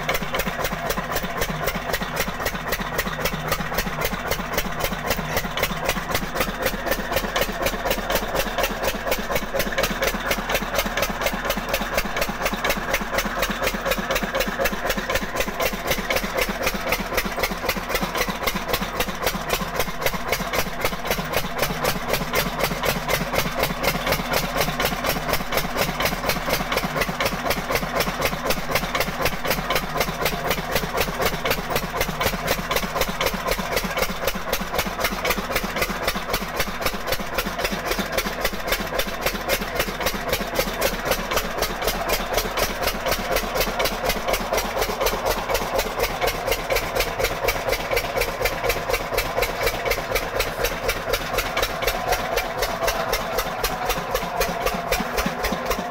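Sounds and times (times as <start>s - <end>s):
stationary diesel engine thudding: 0.0s - 55.9s.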